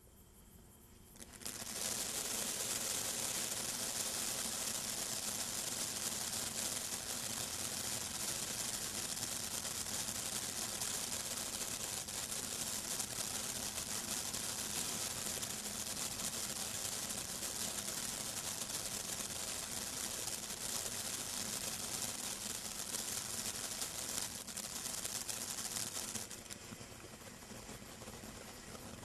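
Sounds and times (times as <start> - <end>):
firework fountain hissing and crackling: 0.8 - 29.0.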